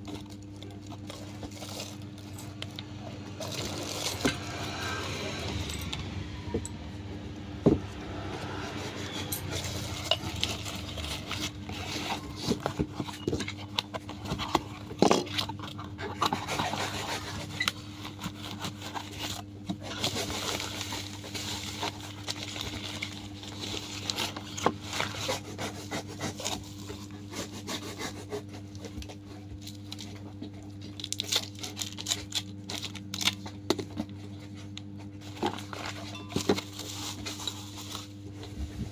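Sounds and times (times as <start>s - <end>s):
packaging rubbing and scraping: 0.0s - 38.9s.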